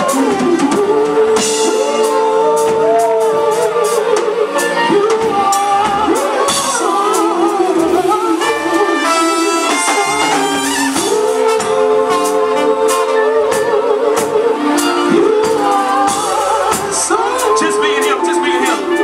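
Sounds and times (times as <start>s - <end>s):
man singing: 0.0s - 13.0s, 13.7s - 19.0s
live band playing: 0.0s - 19.0s.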